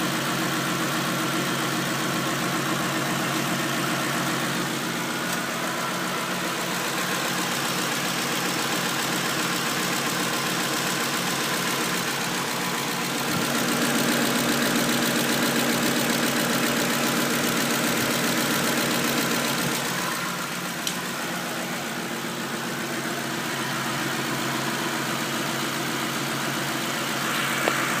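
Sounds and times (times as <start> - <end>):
pickup engine idling: 0.0 - 28.0.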